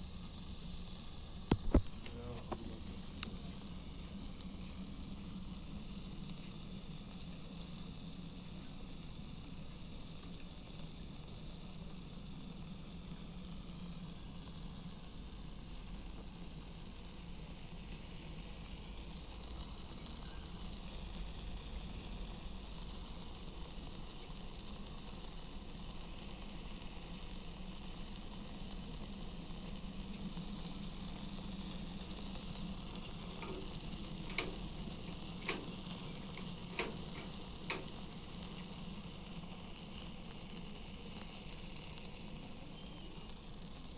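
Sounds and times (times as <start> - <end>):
grill sizzling: 0.0 - 43.9.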